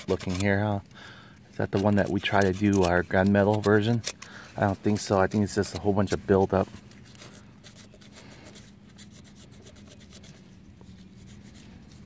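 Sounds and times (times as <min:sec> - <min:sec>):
sandpaper rubbing rusty metal: 0:00.0 - 0:00.8, 0:01.6 - 0:12.0
low steady hum: 0:00.0 - 0:12.0.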